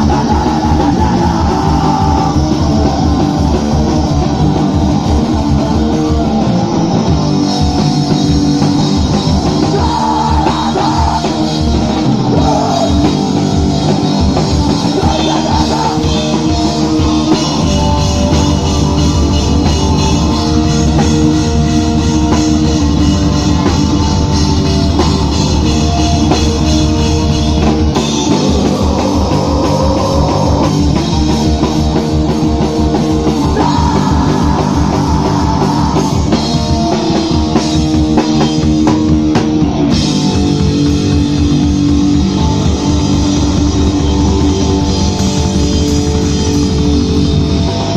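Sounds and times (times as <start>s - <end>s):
drum kit: 0.0s - 47.9s
electric guitars: 0.0s - 47.9s.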